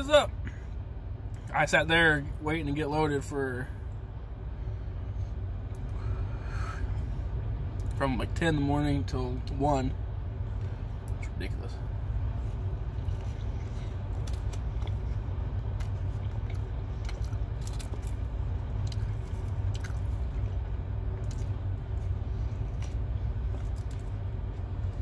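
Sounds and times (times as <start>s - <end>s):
low rumble in vehicle cab: 0.0s - 25.0s
man chewing a sandwich: 3.8s - 8.4s, 9.4s - 25.0s.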